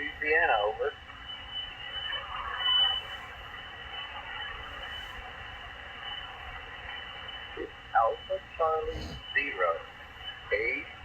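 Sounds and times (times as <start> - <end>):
radio static hiss: 0.0 - 11.0
faint garbled voice on radio: 1.8 - 11.0.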